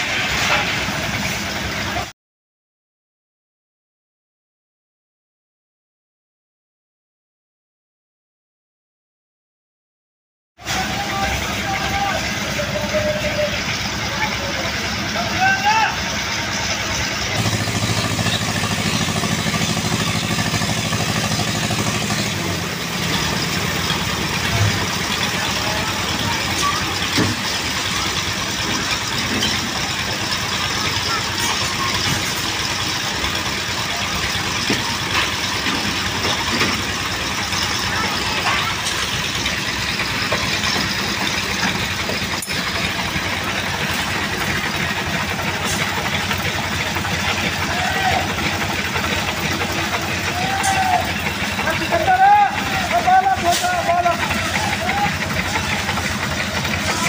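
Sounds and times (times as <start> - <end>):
mixer engine thumping: 10.7 - 57.0.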